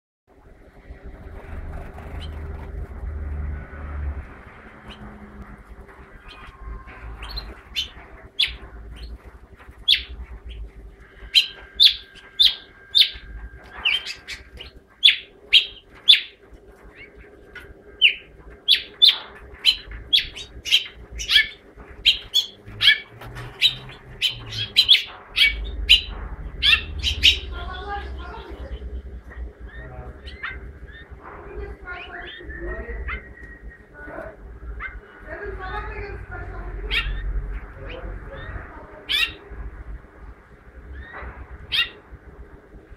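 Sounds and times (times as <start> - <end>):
faint steady hum: 0.3 - 42.9
finch chirping song: 1.0 - 39.5, 40.9 - 42.1.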